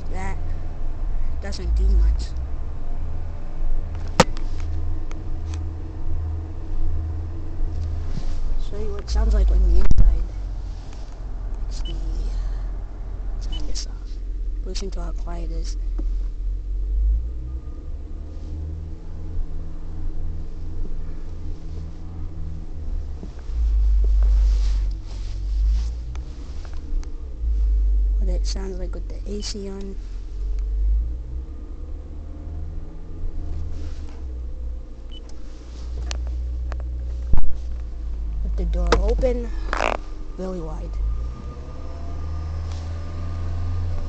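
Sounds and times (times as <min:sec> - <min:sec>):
car engine rumble inside cabin: 0:00.0 - 0:44.0.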